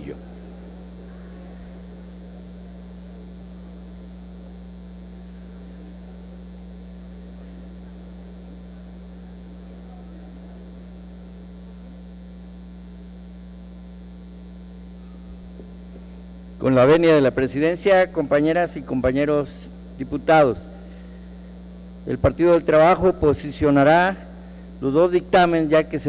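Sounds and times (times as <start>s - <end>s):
mains hum: 0.0s - 26.0s.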